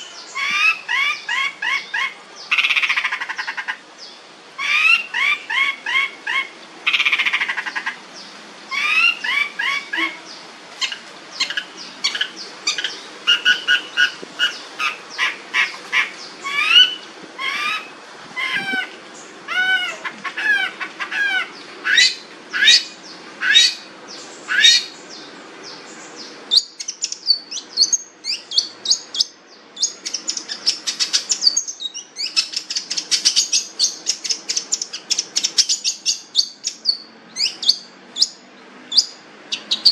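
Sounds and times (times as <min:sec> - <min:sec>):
bird high-pitched chattering: 0:00.0 - 0:03.8, 0:04.6 - 0:08.0, 0:08.7 - 0:23.8, 0:26.5 - 0:39.9.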